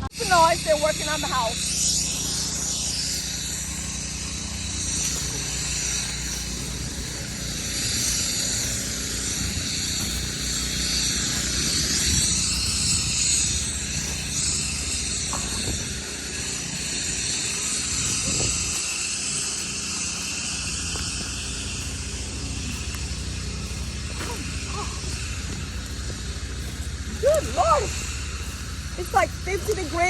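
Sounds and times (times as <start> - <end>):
continuous high hiss: 0.0 - 30.0
low engine-like hum: 0.0 - 30.0.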